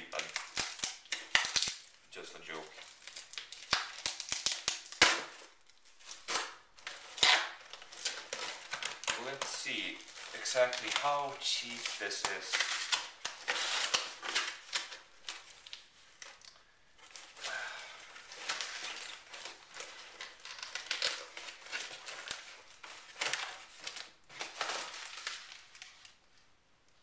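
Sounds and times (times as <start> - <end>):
plastic wrapping crinkling: 0.0 - 27.0.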